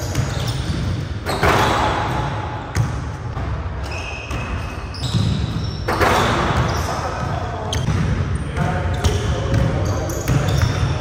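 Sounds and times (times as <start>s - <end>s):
sneaker squeaks: 0.0s - 2.9s, 3.8s - 11.0s.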